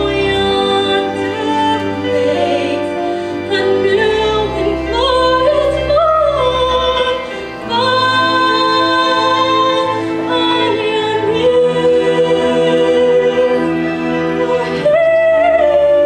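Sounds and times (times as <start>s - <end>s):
instrumental accompaniment with bass: 0.0s - 16.0s
woman singing with vibrato: 0.0s - 16.0s.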